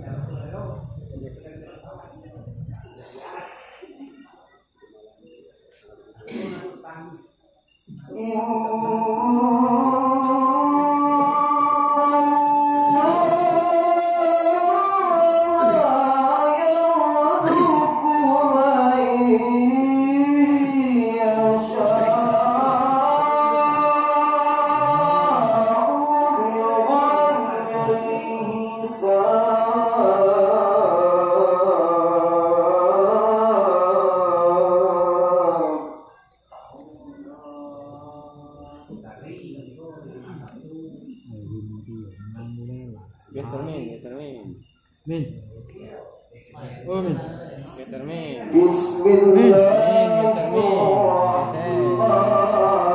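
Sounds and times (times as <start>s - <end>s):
melodic quran recitation: 0.0s - 52.9s.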